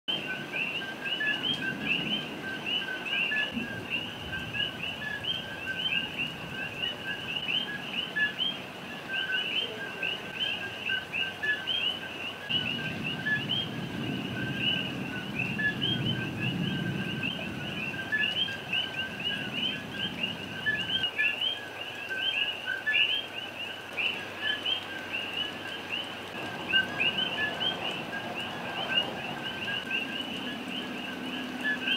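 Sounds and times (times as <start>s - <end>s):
frogs calling: 0.1s - 31.9s.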